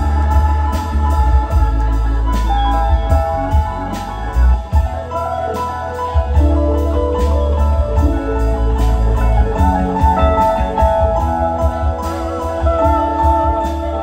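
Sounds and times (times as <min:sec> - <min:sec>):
drum kit with cymbal hits: 0:00.0 - 0:14.0
electric bass: 0:00.0 - 0:14.0
electric guitars: 0:00.0 - 0:14.0
keyboards: 0:00.0 - 0:14.0
pedal steel guitar: 0:00.0 - 0:14.0.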